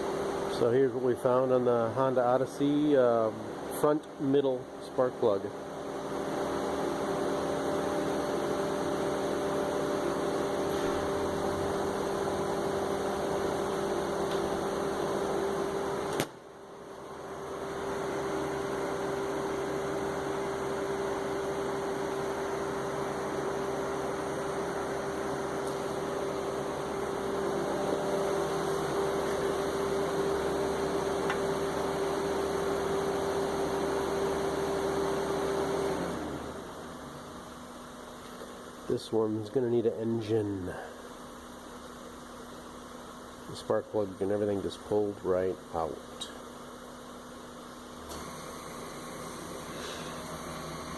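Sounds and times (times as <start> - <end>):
misfiring engine whine: 5.0 - 50.9.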